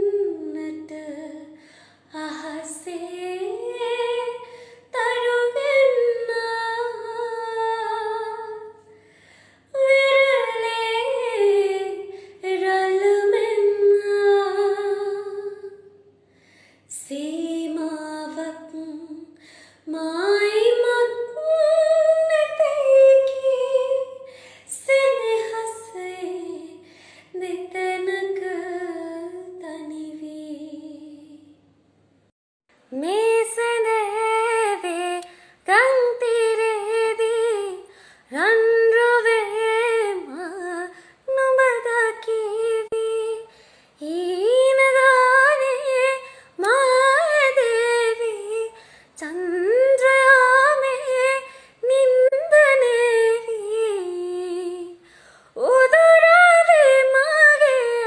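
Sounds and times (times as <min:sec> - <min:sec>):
woman singing unaccompanied: 0:00.0 - 0:08.9, 0:09.7 - 0:15.9, 0:16.9 - 0:31.6, 0:32.9 - 0:55.0, 0:55.6 - 0:58.0.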